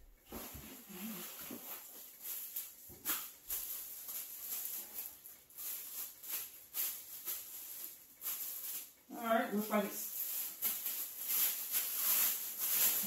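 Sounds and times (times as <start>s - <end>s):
plastic wrapping crinkling: 0.3s - 13.0s.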